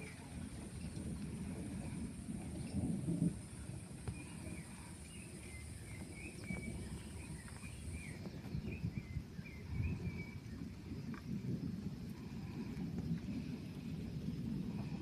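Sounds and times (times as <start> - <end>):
distant thunder: 0.0 - 15.0
wind: 0.0 - 15.0.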